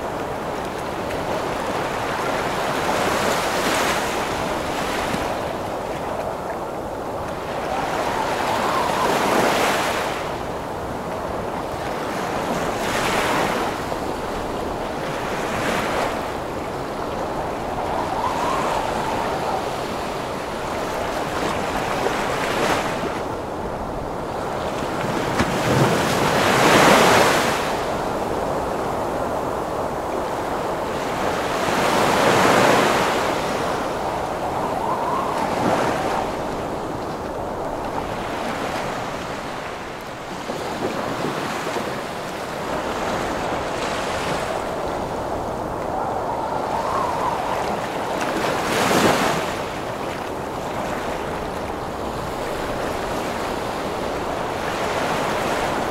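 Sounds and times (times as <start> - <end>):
ocean waves breaking: 0.0 - 55.9
storm wind: 0.0 - 55.9.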